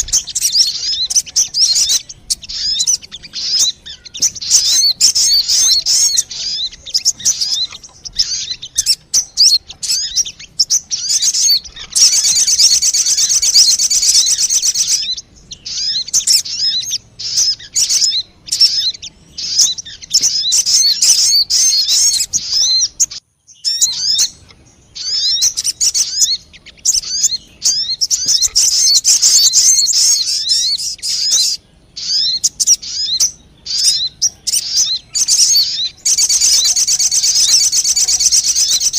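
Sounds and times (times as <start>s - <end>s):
birds chirping and twittering: 0.0s - 38.9s
buzzy rattling bird trill: 0.0s - 38.9s.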